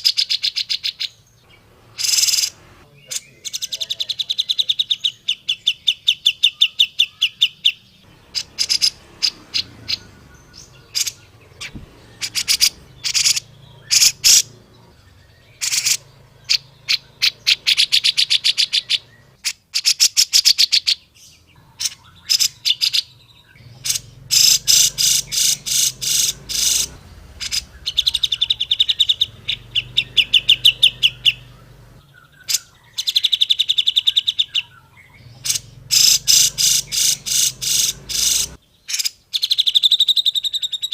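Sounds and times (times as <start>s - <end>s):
bird chattering calls: 0.0s - 40.9s.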